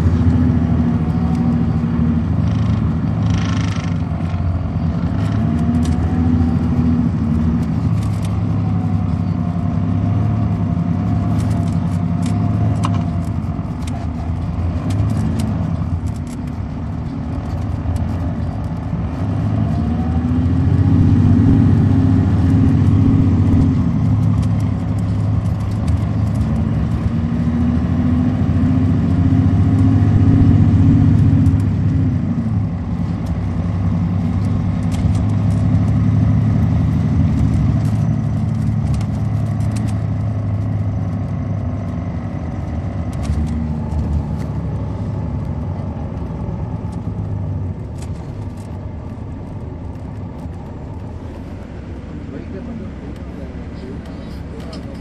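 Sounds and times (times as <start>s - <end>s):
bus diesel engine from inside: 0.0s - 55.0s.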